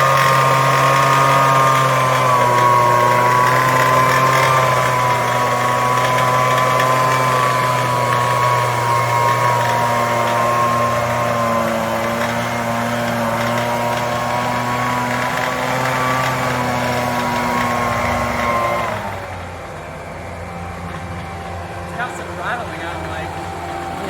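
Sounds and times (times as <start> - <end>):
leaf blower engine running: 0.0 - 24.0.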